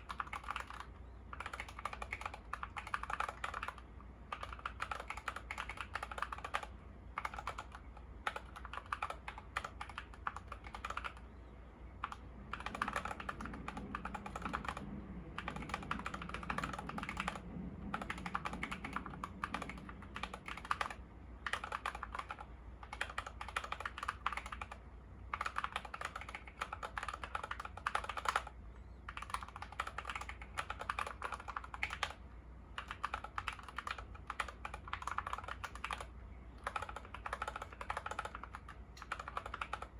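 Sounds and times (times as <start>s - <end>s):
fast typing on mechanical keyboard: 0.0s - 11.3s, 12.0s - 39.9s.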